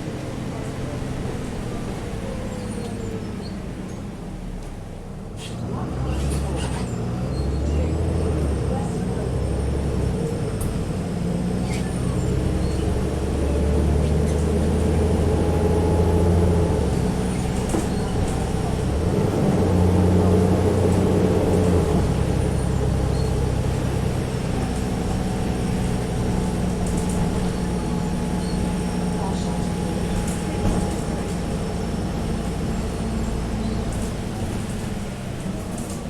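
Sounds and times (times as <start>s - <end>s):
bus diesel engine pulling away: 0.0s - 36.0s.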